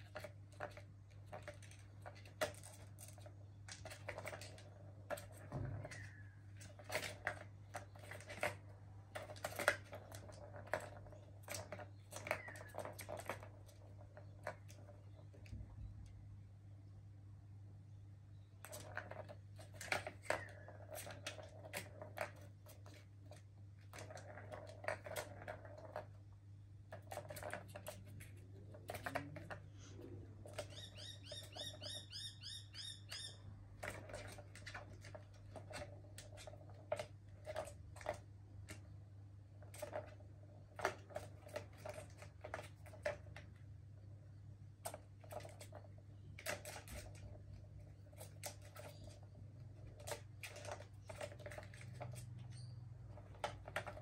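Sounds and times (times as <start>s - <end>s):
plastic balls rolling and rattling: 0.0s - 16.3s, 18.3s - 54.0s.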